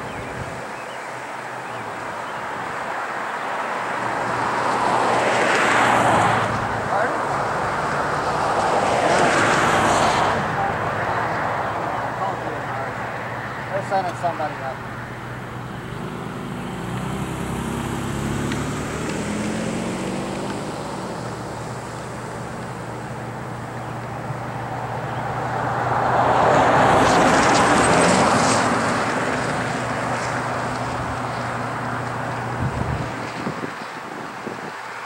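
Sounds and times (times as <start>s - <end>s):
highway traffic passing: 0.0s - 35.0s
truck towing trailer passing: 3.9s - 33.8s.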